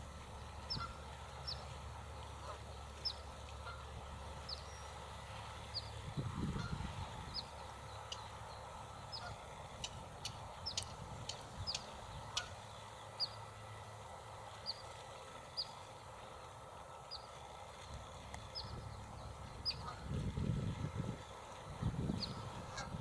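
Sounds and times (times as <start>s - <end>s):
ducklings peeping: 0.4s - 13.5s, 17.1s - 23.0s.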